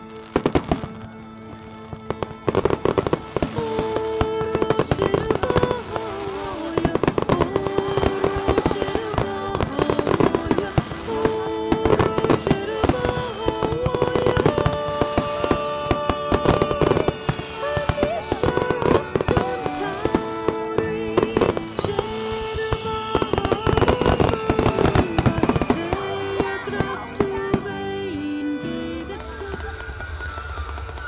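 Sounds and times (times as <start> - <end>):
fireworks bursting: 0.0 - 31.0
music with long held notes: 0.0 - 31.0.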